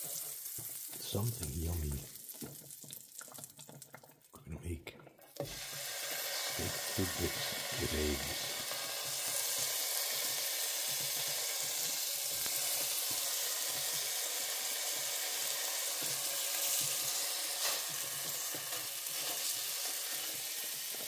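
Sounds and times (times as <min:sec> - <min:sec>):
steak sizzling in frying pan: 0:00.0 - 0:04.3, 0:05.4 - 0:21.0.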